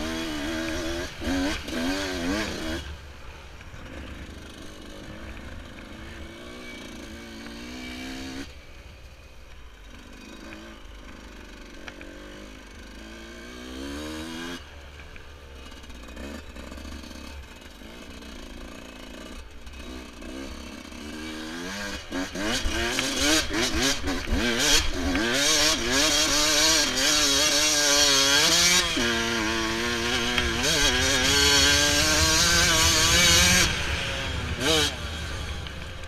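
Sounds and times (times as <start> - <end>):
two-stroke motorcycle engine revving: 0.0 - 8.8, 9.5 - 36.0.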